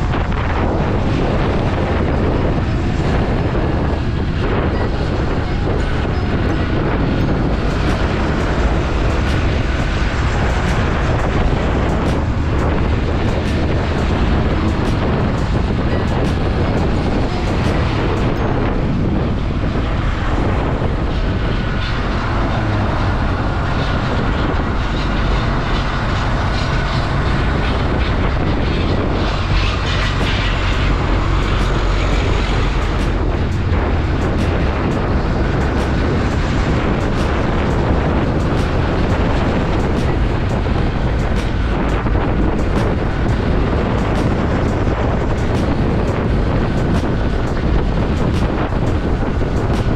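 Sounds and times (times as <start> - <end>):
wind rush on microphone: 0.0 - 49.9.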